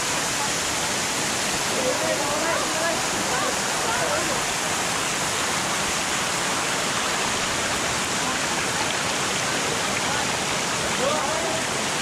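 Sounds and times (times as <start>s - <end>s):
water rushing over rock: 0.0s - 12.0s.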